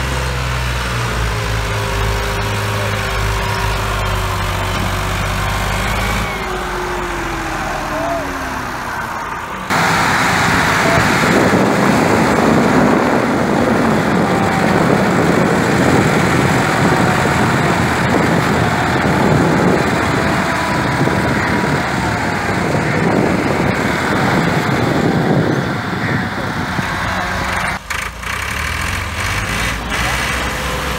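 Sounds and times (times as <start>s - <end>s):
tractor engines under load: 0.0s - 30.9s.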